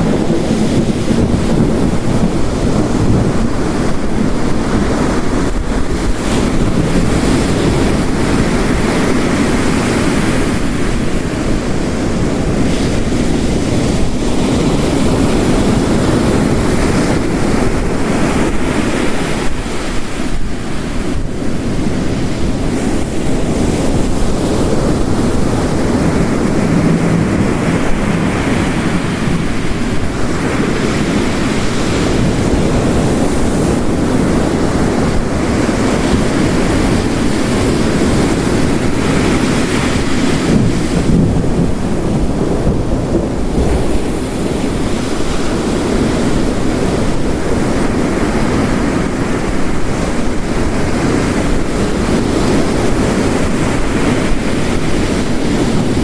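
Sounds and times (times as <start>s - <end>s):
heavy rain: 0.0s - 56.0s
ocean waves crashing on rocks: 0.0s - 56.0s.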